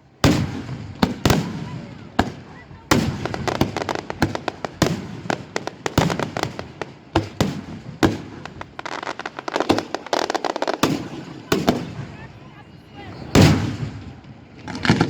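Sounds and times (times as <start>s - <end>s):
fireworks banging: 0.0s - 15.0s
fireworks crackling: 0.0s - 15.0s.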